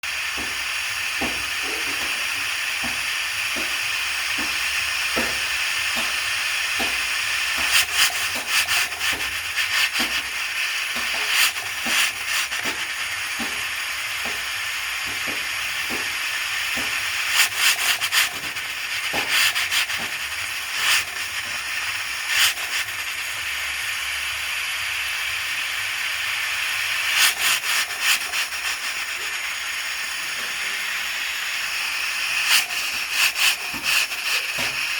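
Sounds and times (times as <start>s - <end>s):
pressure cooker hissing steam: 0.0s - 34.9s.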